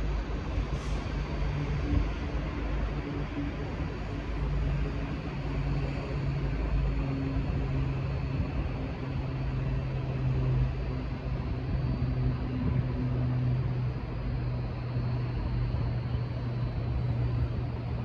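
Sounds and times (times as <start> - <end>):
diesel train engine droning: 0.0 - 18.0.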